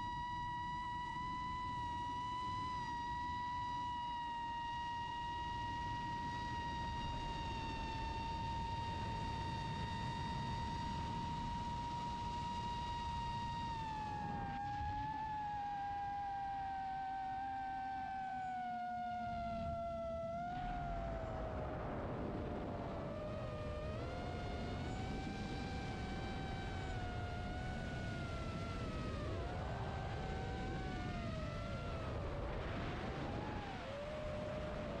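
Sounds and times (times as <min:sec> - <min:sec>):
drone motors whining: 0:00.0 - 0:35.0.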